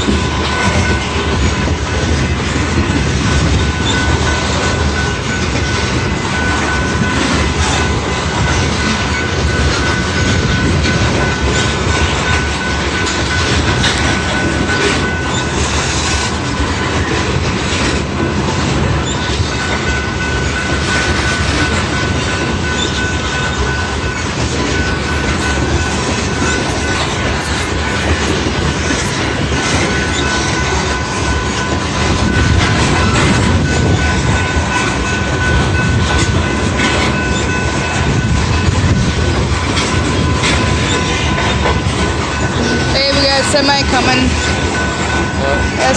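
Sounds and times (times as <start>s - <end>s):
train wheels clacking over rail joints: 0.0s - 45.7s.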